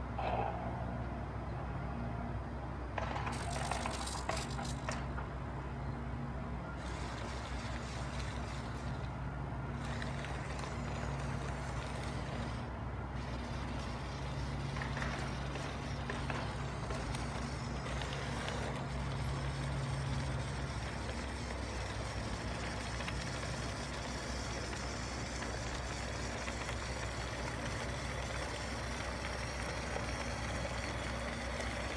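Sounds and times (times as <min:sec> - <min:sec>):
remote-control model engine drone: 0:03.0 - 0:05.0, 0:06.6 - 0:31.9
constant hiss: 0:03.2 - 0:31.9.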